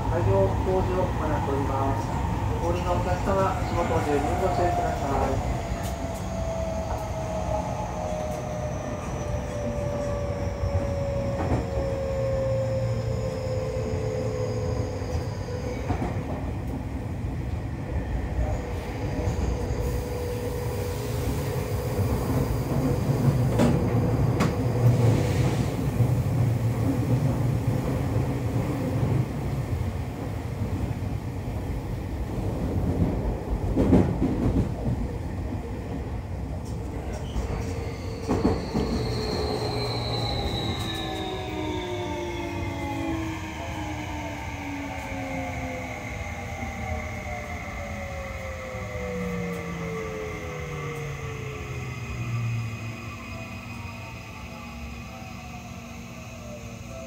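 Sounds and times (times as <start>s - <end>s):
wheels rumbling on rail: 0.0s - 48.0s.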